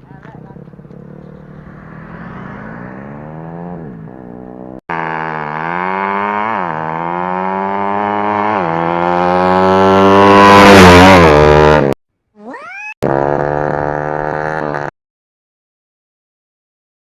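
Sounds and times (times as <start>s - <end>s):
motorcycle engine revving: 0.0s - 12.0s, 13.0s - 14.9s.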